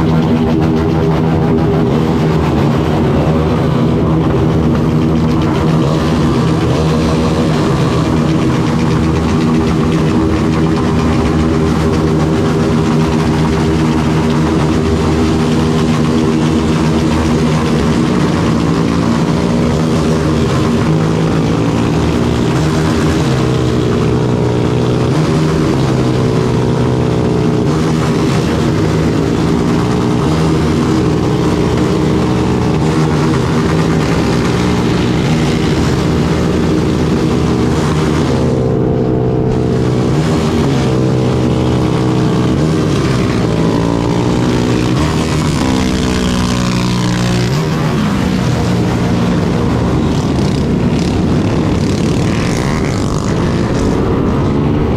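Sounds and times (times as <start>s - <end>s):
motorcycle engine revving: 0.0s - 54.9s
rush of riding noise: 0.0s - 54.9s.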